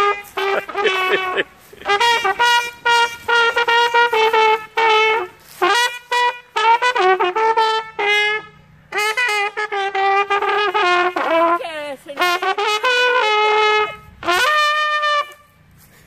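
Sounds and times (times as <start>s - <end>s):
trumpet playing a tune: 0.0s - 15.9s.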